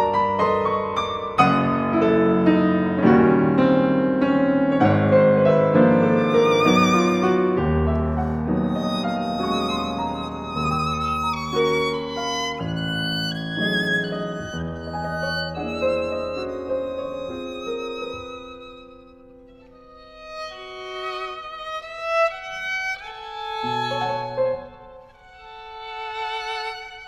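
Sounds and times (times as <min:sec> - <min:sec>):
piano playing: 0:00.0 - 0:27.0
violin playing: 0:04.8 - 0:27.0.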